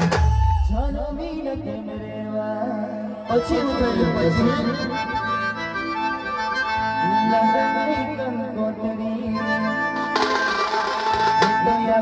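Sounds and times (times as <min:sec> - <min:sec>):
band playing live: 0:00.0 - 0:12.0
accordion-like lead melody: 0:01.8 - 0:12.0.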